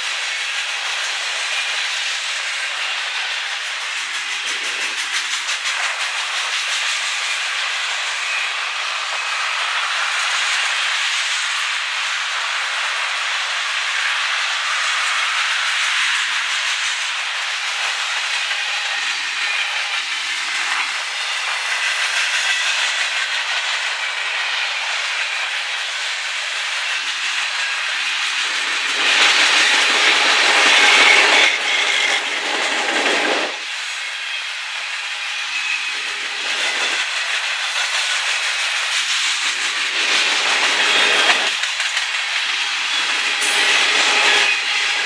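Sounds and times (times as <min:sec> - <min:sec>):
freight train cars rolling past: 0:00.0 - 0:45.0.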